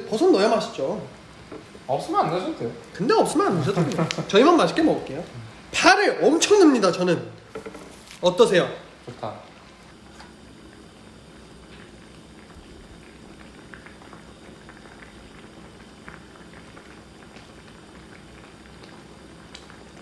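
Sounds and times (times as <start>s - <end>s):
soup bubbling at a simmer: 0.0s - 20.0s.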